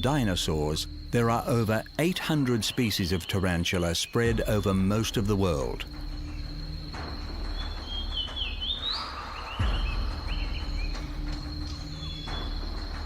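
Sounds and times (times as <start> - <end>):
high-pitched insect drone: 0.0 - 13.0
chirping bird calls: 2.1 - 13.0.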